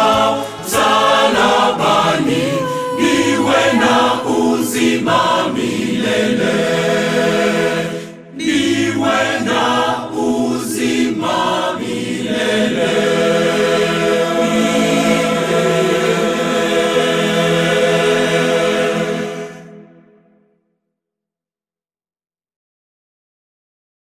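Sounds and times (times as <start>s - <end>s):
choir singing in harmony: 0.0s - 20.4s.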